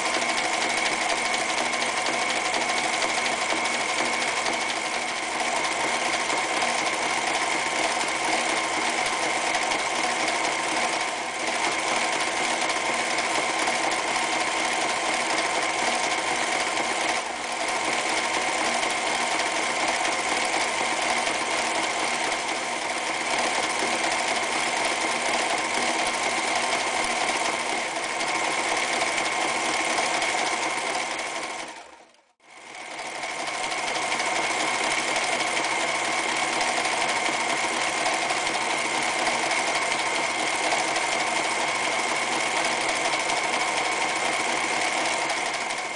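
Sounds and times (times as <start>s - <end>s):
sewing machine running: 0.0s - 45.9s.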